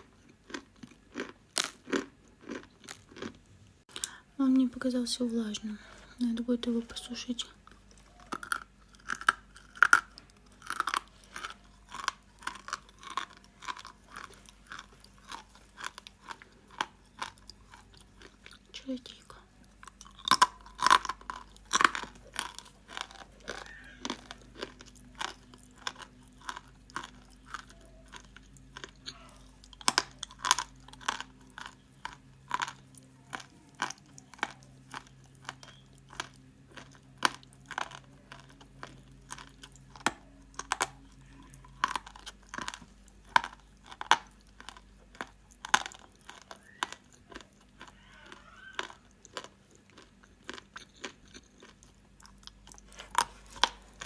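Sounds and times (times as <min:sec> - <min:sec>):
crunching of chalk being chewed: 0:00.0 - 0:04.2, 0:07.4 - 0:54.0.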